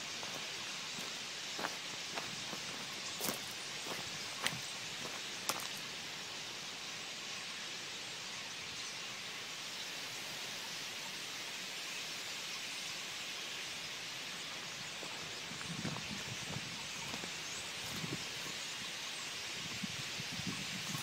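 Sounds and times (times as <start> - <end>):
flock of birds flying overhead: 0.0 - 21.0.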